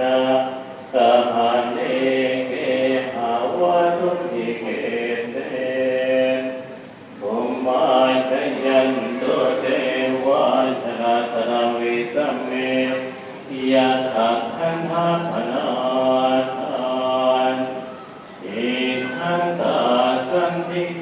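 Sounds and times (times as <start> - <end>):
men chanting in unison: 0.0 - 21.0.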